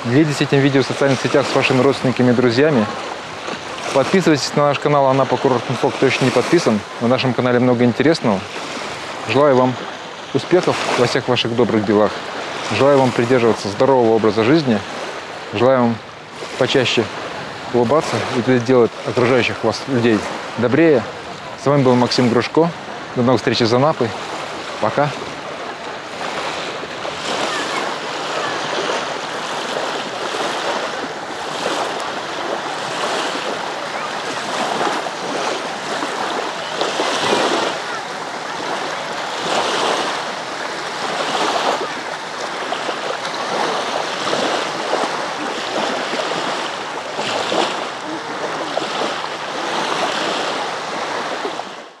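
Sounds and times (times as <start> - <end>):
small waves lapping on shore: 0.0 - 52.0.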